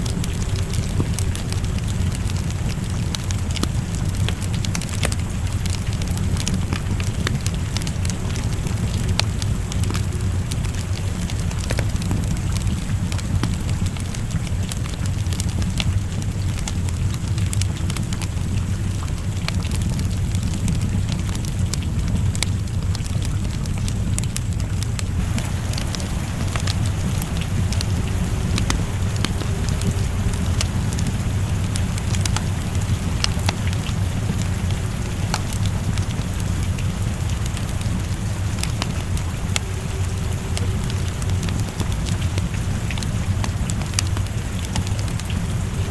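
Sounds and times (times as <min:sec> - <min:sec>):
continuous low rumble: 0:00.0 - 0:45.9
steady rain: 0:00.0 - 0:45.9
wood fire crackling and popping: 0:00.0 - 0:45.9.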